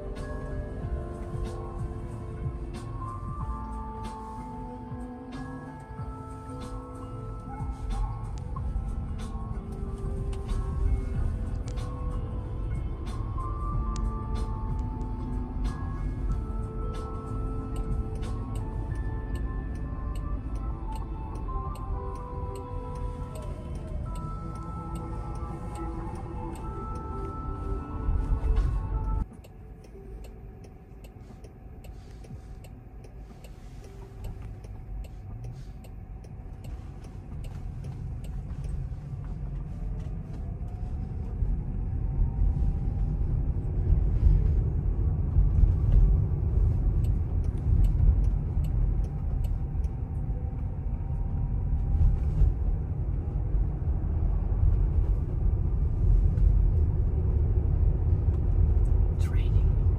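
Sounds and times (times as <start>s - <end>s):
road and tyre rumble in car: 0.0s - 59.9s.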